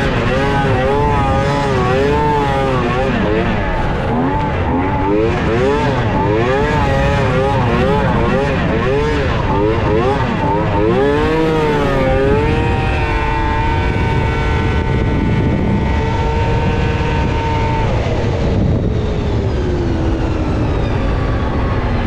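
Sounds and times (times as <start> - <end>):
snowmobile engine revving: 0.0 - 20.7.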